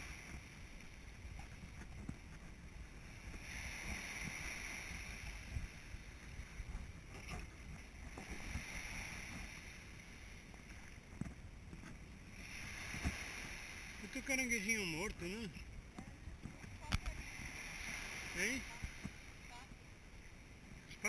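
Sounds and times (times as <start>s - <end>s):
small waves washing ashore: 0.0s - 21.0s.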